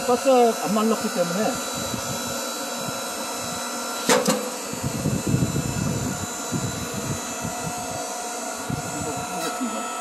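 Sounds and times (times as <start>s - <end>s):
hydraulic log splitter humming: 0.0s - 10.0s.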